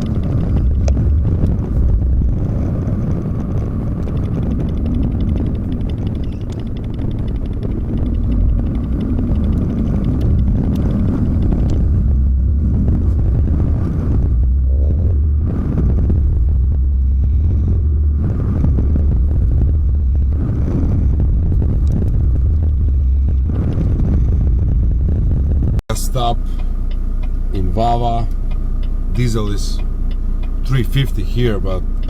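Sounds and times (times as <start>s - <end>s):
diesel truck engine rumbling: 0.0s - 32.0s.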